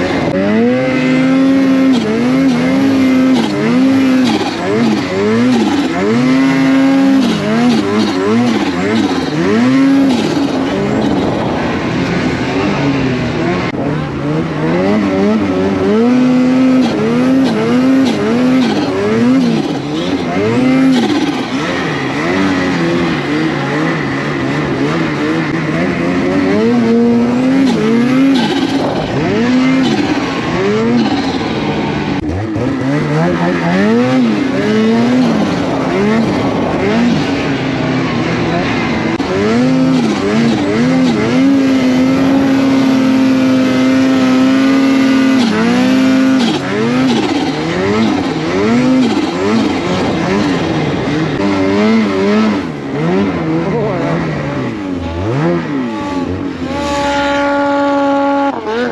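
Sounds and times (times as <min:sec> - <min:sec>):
constant rushing noise: 0:00.0 - 0:58.9
engine revving up and down: 0:00.0 - 0:58.9.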